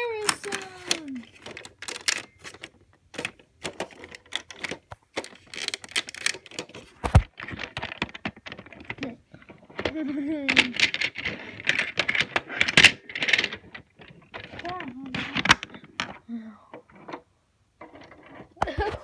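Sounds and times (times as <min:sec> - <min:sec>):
plastic toys clattering: 0:00.0 - 0:19.0.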